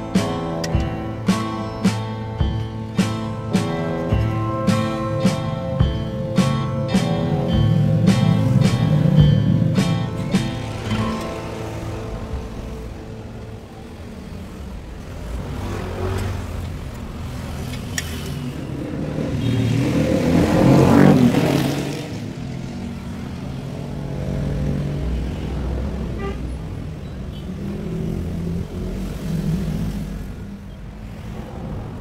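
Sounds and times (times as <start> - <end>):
vehicle engine passing by: 3.9 - 26.8, 27.6 - 32.0.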